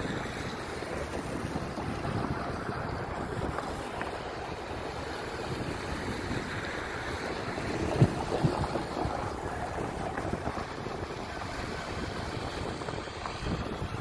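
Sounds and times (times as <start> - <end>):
cars passing on road: 0.0 - 14.0
wind on microphone: 0.0 - 14.0.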